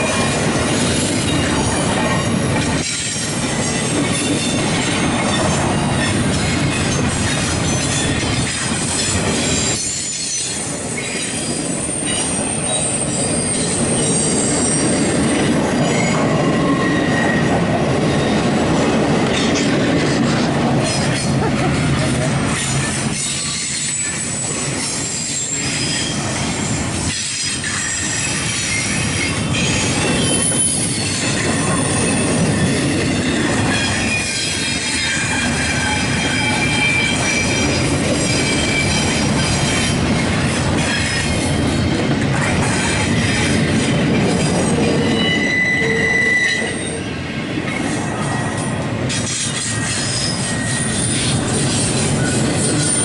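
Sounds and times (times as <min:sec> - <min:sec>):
train rolling rumble: 0:00.0 - 0:53.0
train wheels squealing on rails: 0:00.0 - 0:53.0.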